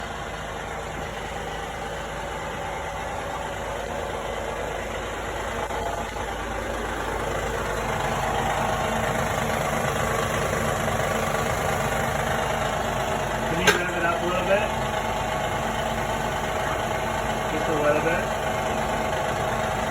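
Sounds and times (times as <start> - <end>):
car engine idling with knocking: 0.0 - 19.9.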